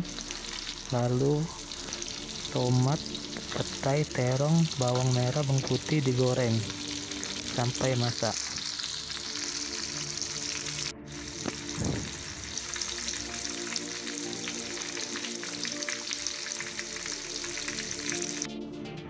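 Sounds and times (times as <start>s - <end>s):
vegetables deep-frying in oil: 0.0s - 18.5s.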